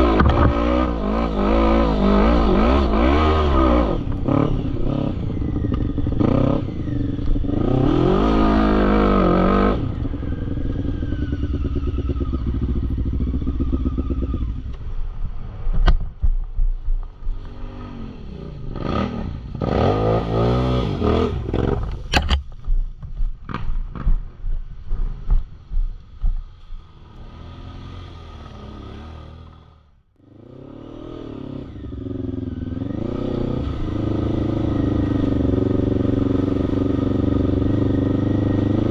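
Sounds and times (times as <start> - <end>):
quad bike engines revving: 0.0 - 14.8, 17.3 - 22.3, 26.4 - 38.9.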